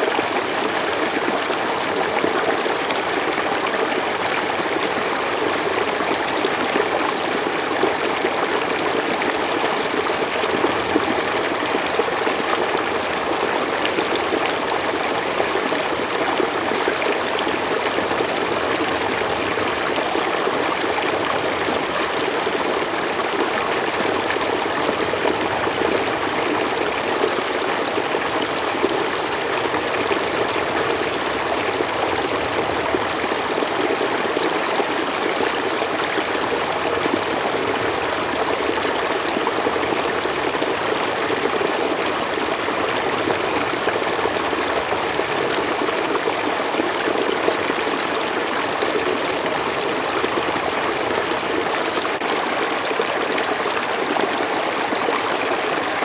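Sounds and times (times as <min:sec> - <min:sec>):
stream water splashing over rocks: 0:00.0 - 0:56.0.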